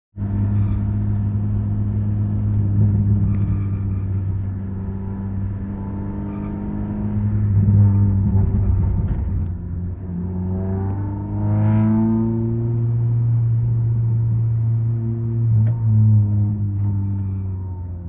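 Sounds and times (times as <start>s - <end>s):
road noise: 0.1s - 18.0s
car engine droning: 0.2s - 18.0s.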